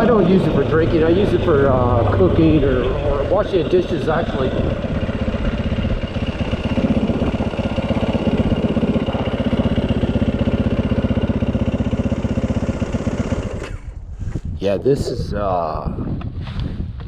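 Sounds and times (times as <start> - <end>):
dirt bike engine idling: 0.0 - 14.1.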